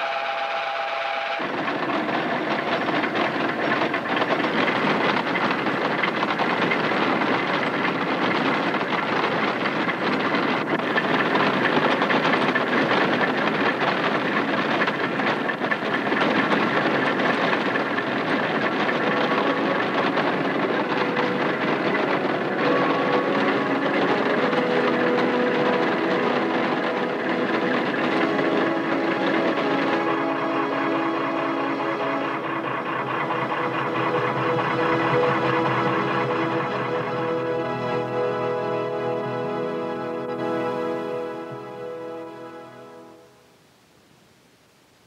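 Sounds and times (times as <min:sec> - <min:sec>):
grinding mill running: 0:00.0 - 0:42.2
faint steady tones: 0:00.0 - 0:45.0.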